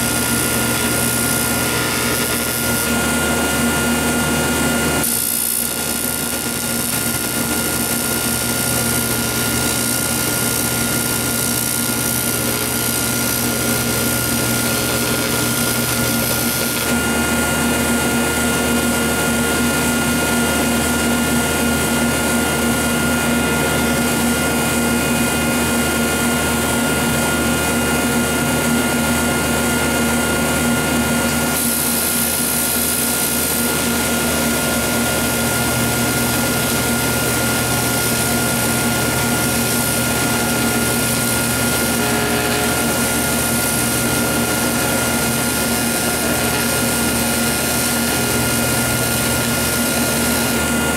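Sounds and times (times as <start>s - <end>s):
welding machine electrical hum: 0.0s - 50.9s.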